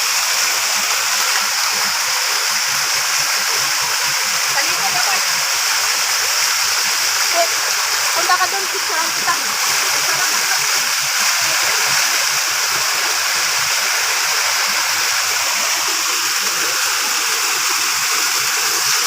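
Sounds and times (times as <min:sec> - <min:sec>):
water running over rocks: 0:00.0 - 0:19.0
waterfall rushing: 0:00.0 - 0:19.0.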